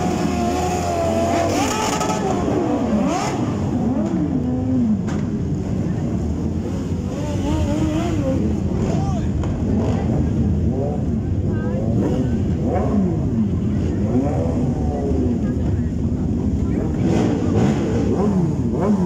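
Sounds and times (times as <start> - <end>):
motorcycle engines revving: 0.0 - 19.0
motorcycles idling: 0.0 - 19.0.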